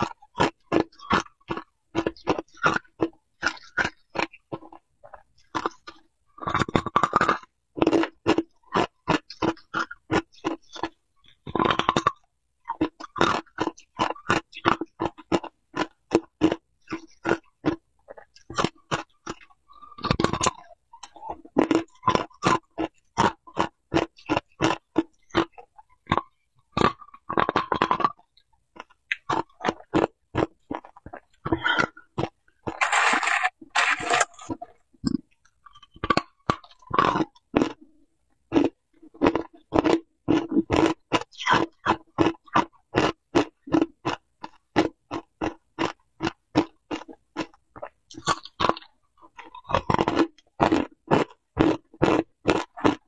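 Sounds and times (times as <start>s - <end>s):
ice cubes crunching being chewed: 0.0s - 37.8s, 38.5s - 53.0s.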